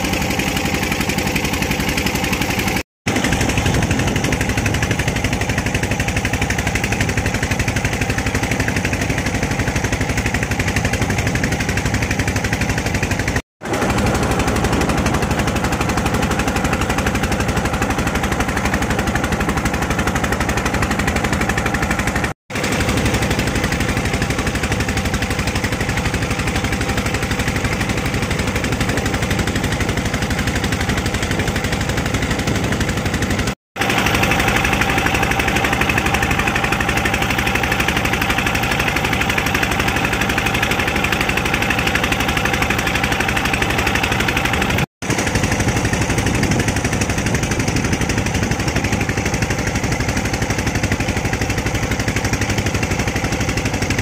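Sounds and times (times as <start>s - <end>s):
boat engine chugging: 0.0s - 54.0s.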